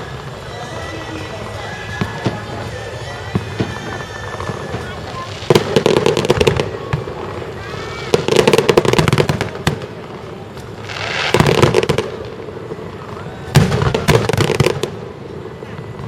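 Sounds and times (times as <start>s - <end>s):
firework hiss: 0.0s - 16.0s
fireworks crackling bangs: 0.0s - 16.0s.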